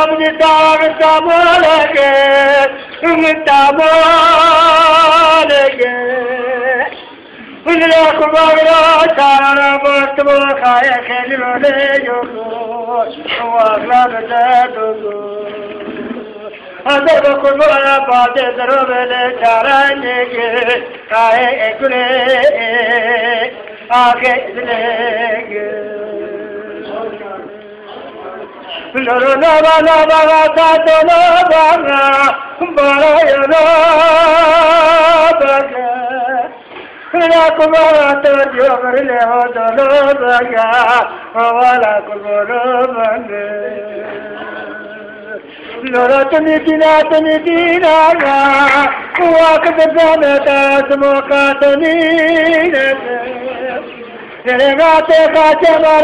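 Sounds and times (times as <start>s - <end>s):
old man singing unaccompanied: 0.0s - 56.0s.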